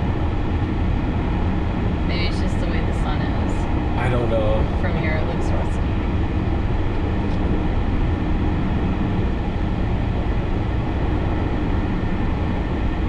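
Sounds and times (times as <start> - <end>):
car cabin engine and tyre rumble: 0.0 - 13.0.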